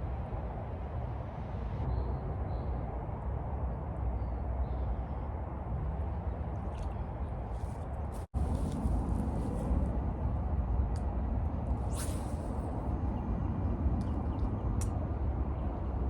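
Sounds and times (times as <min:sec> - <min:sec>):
low outdoor background rumble: 0:00.0 - 0:16.0.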